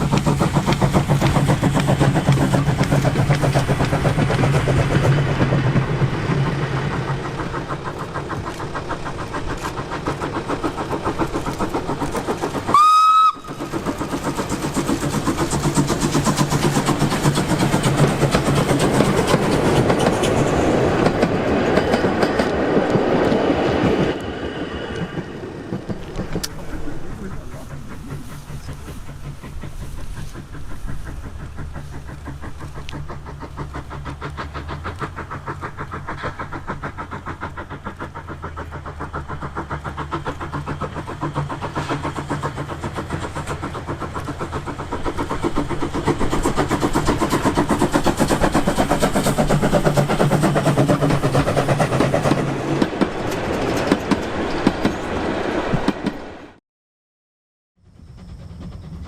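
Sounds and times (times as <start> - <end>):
wheel and rail clatter: 0.0 - 56.4
steam locomotive exhaust beats: 0.0 - 56.6, 57.8 - 59.0.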